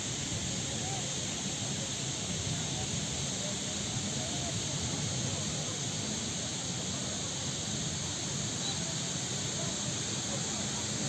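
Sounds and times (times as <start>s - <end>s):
constant hiss: 0.0s - 11.0s
faint distant voices: 0.1s - 11.0s.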